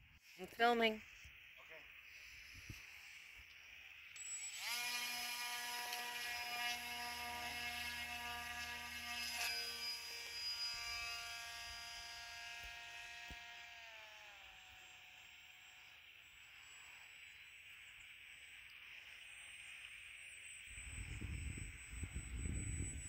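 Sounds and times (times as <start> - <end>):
electric motor and propeller whine: 0.0 - 23.0.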